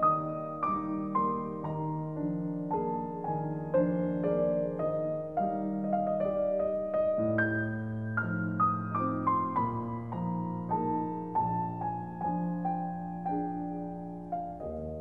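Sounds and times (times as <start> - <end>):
solo piano classical piece: 0.0 - 15.0.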